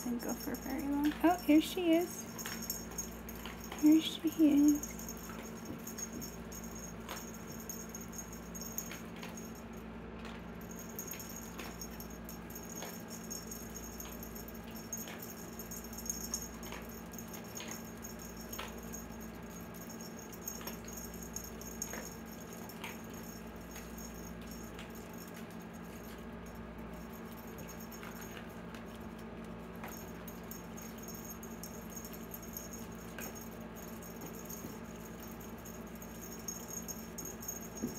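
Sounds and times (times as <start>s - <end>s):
light clicks and small rattles: 0.0s - 37.9s
low electrical hum: 0.0s - 37.9s.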